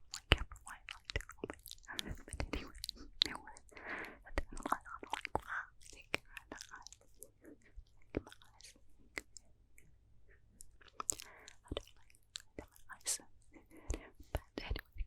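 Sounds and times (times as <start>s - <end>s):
wet mouth clicks and lip smacks: 0.0s - 9.9s, 10.5s - 15.0s.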